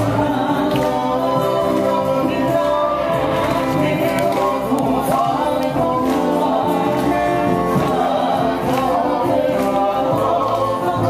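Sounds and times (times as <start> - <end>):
group of voices singing in chorus: 0.0 - 11.0.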